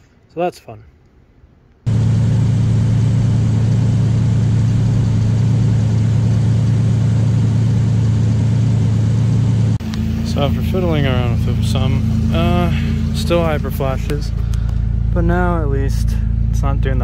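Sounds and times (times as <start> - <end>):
pickup engine idling: 1.9 - 17.0.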